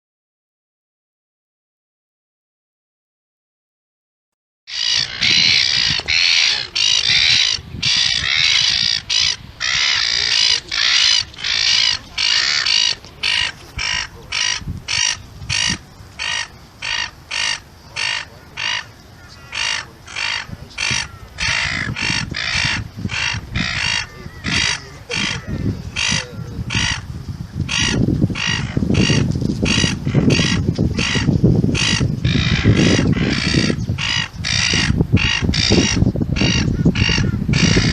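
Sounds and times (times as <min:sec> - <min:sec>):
gulls squawking: 0:04.7 - 0:37.9.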